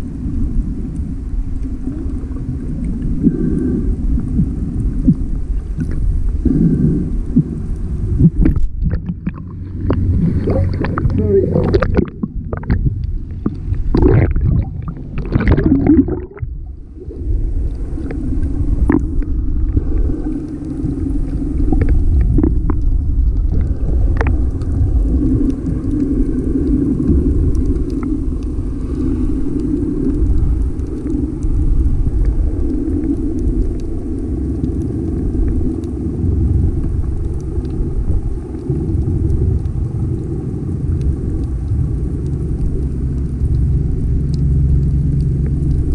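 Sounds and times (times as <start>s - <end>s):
boat engine rumble: 0.0s - 45.9s.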